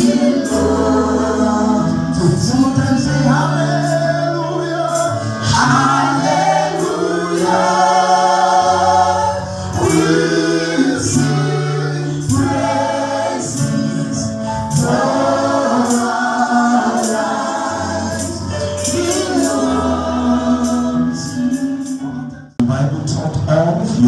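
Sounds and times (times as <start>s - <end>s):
choir singing gospel song: 0.0s - 22.4s
keyboard bass line: 0.0s - 24.0s.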